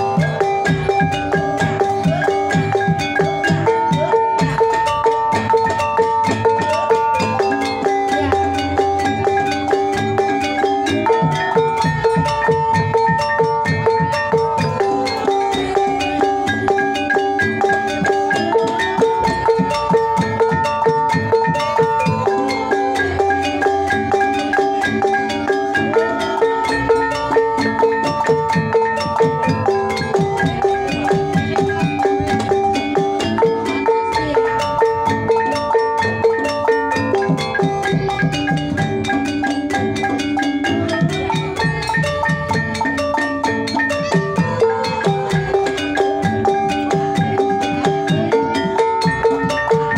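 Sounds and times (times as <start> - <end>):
gong-chime kettles ringing melody: 0.0 - 49.9
hand drumming: 0.0 - 49.9.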